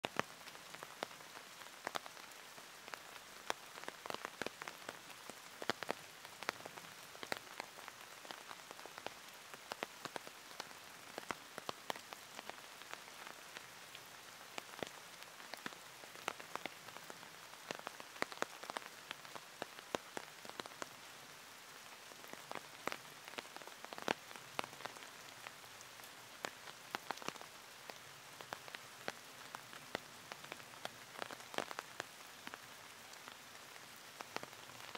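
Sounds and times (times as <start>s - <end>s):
raindrops ticking: 0.0s - 21.0s, 22.2s - 34.9s
steady rain falling: 0.0s - 34.9s.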